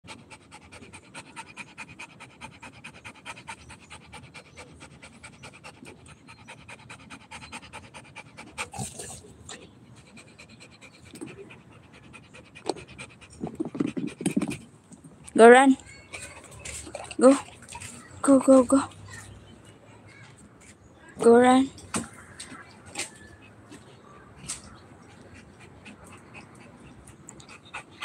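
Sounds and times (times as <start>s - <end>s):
dog panting: 0.1s - 19.3s, 22.9s - 28.0s.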